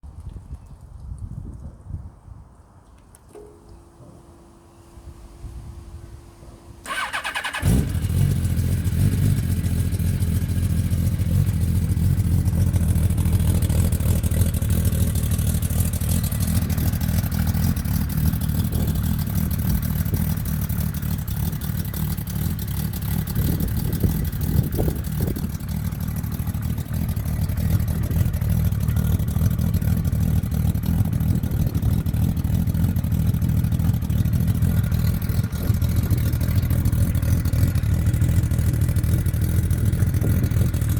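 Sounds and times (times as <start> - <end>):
motorcycle engine cranking and idling: 2.8 - 40.9.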